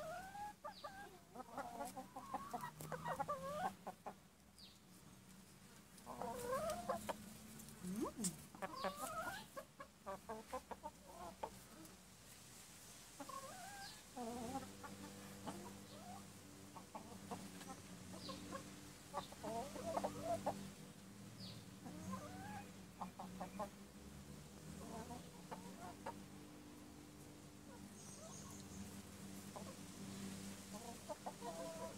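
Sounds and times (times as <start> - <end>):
hens clucking softly: 0.0 - 12.0, 13.2 - 23.9, 24.5 - 31.9.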